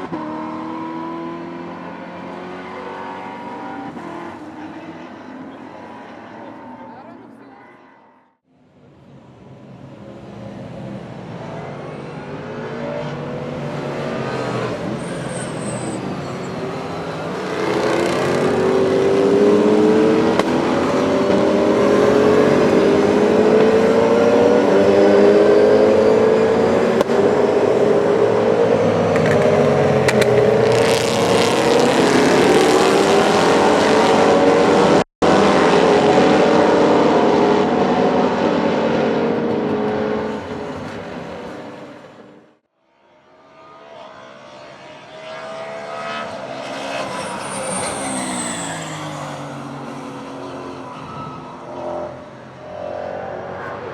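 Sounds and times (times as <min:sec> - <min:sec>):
racing car engines revving: 0:00.0 - 0:08.4, 0:09.7 - 0:53.9.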